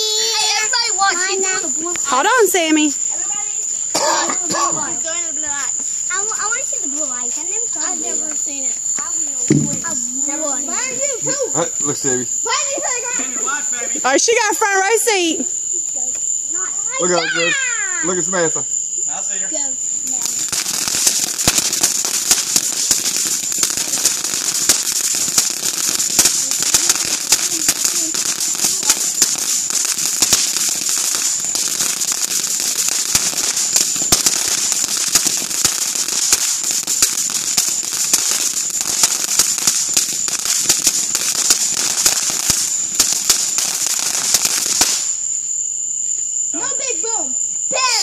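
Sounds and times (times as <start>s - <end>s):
firework crackling and popping: 0.0s - 48.0s
high hiss: 0.0s - 48.0s.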